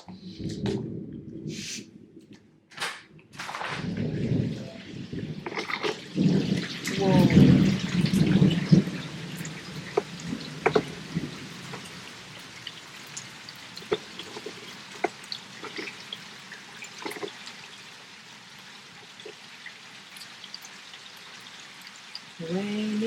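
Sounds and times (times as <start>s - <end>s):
rain falling: 0.0s - 23.0s
heavy drops dripping and splashing: 0.4s - 22.4s.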